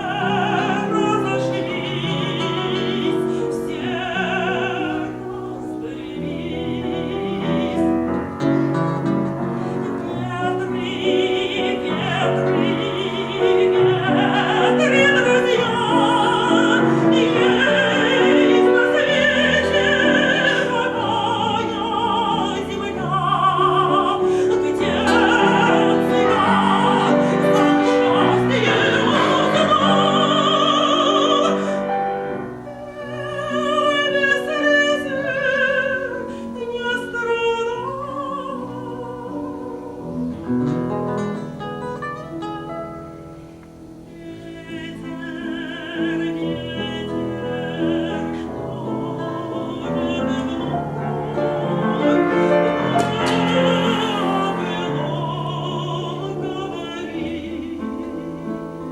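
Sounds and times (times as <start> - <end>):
piano accompaniment: 0.0 - 58.9
vocal melody with wide vibrato: 0.0 - 58.9.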